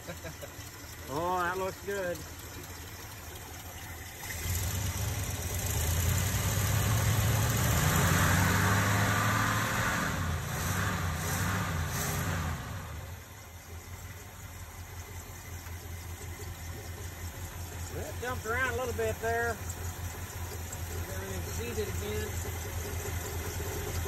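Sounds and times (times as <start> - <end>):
truck engine revving: 4.0 - 24.0.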